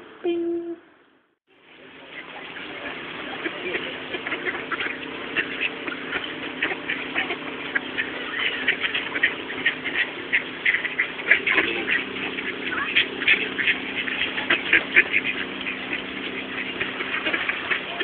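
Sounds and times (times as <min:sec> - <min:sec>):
steady low hum: 0:00.0 - 0:18.0
ducks quacking: 0:02.0 - 0:18.0.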